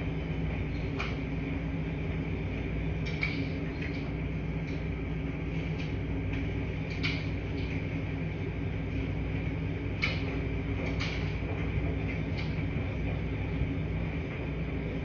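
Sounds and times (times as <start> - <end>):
washing machines humming: 0.0 - 15.0.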